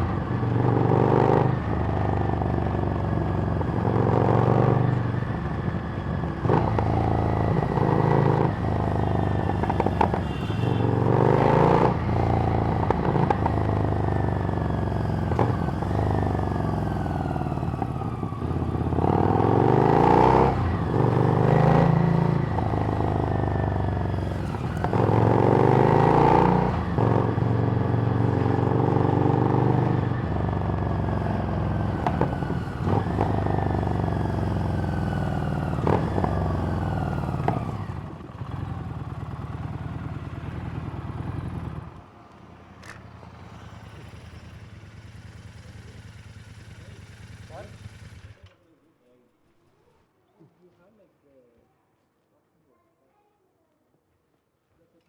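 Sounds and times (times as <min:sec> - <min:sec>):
motorcycle engine revving: 0:00.0 - 0:42.1, 0:42.7 - 0:48.7.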